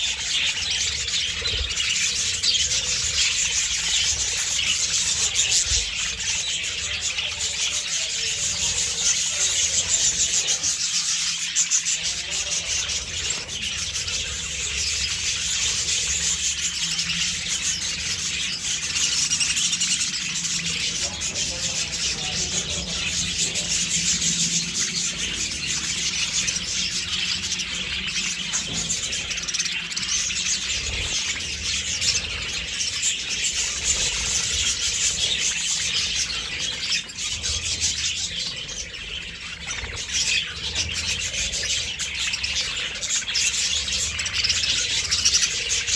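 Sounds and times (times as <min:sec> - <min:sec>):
budgerigars chattering and chirping: 0:00.0 - 0:45.9.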